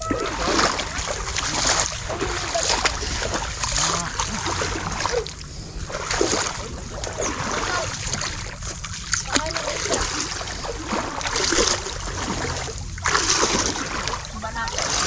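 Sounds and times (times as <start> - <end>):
people wading through muddy water: 0.0 - 15.0.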